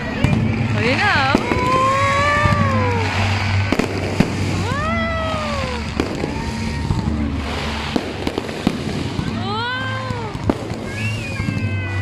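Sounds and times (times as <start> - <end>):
fireworks bangs and cracks: 0.0 - 12.0
fireworks whistling: 0.0 - 12.0.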